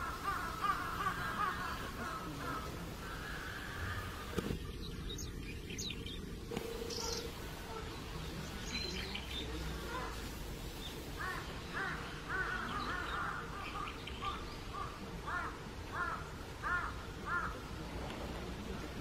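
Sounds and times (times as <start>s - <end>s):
bird calling: 0.0s - 17.6s.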